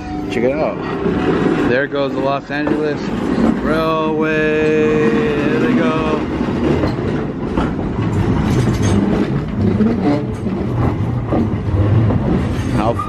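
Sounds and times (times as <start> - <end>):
streetcar wheels rumbling on rails: 0.0 - 13.0.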